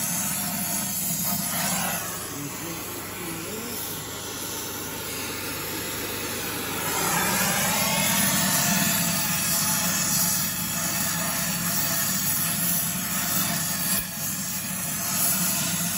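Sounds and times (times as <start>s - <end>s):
torch flame hissing: 0.0s - 15.9s.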